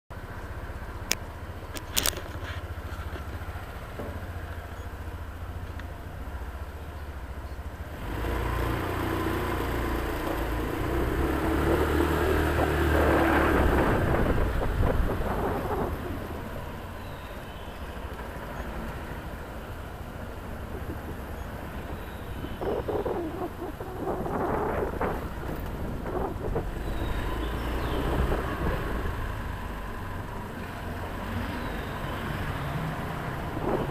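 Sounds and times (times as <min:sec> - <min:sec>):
motor scooter engine: 0:00.2 - 0:33.9.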